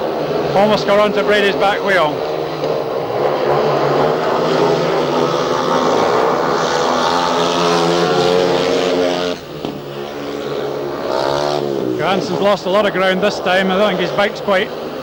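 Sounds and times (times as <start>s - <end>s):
motorcycle engines racing: 0.0s - 15.0s.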